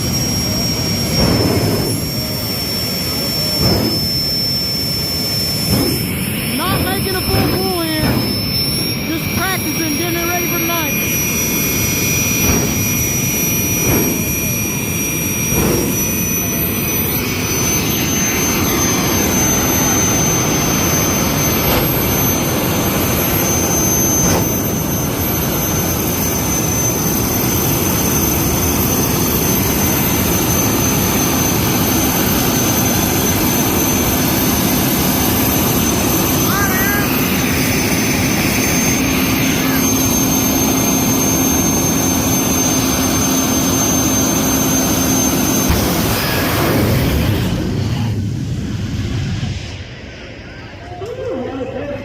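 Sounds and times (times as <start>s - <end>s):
turbine engine whine and rush: 0.0s - 52.0s.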